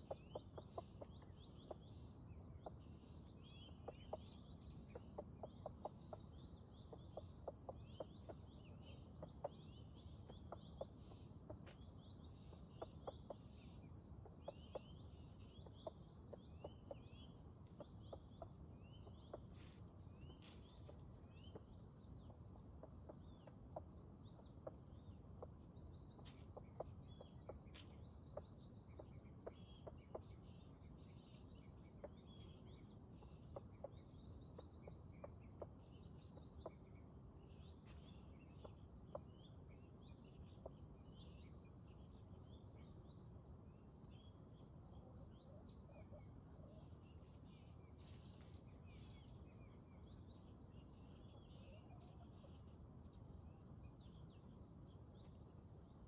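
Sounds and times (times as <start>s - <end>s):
insect chirps: 0.0s - 56.0s.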